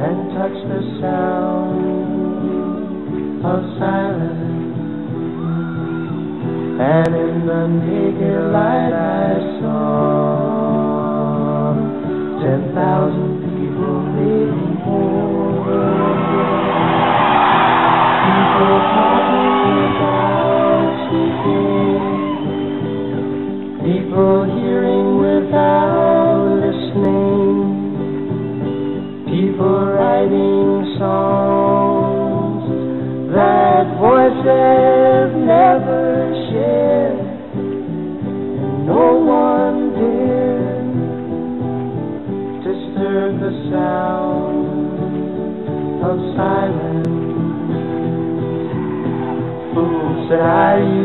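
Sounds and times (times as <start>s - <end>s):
song with singing and guitar: 0.0s - 51.0s.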